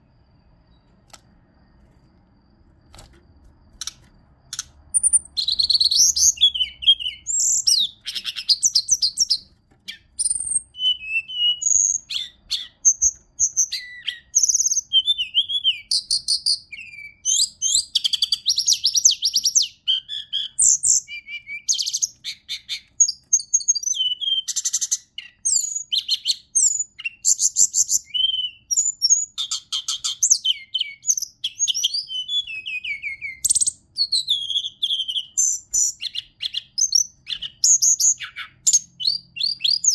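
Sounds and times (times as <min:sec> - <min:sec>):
bird singing: 0:00.0 - 0:02.9, 0:03.7 - 0:39.9.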